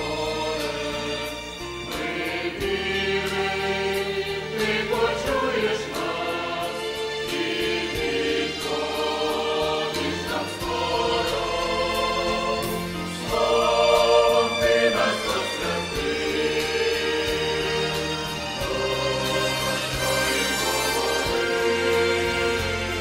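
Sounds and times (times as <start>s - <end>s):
choir singing in parts: 0.0s - 23.0s.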